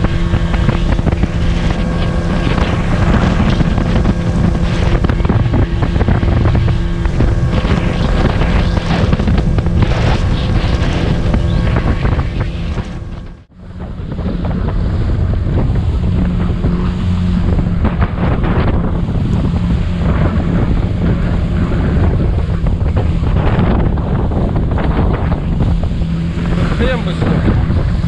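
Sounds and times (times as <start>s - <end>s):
outboard motor running: 0.0s - 28.0s
wind buffeting microphone: 0.0s - 28.0s.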